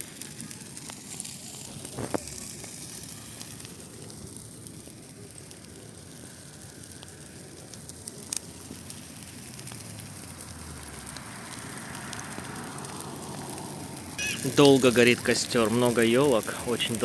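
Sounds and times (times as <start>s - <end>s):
bonfire crackling: 0.0s - 17.0s
fire pop: 0.0s - 17.0s.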